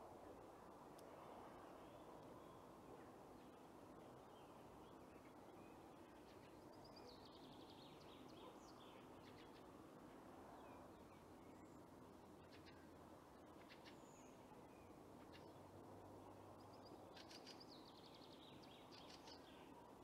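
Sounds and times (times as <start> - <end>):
outdoor background hiss: 0.0 - 20.0
songbirds chirping: 0.4 - 20.0.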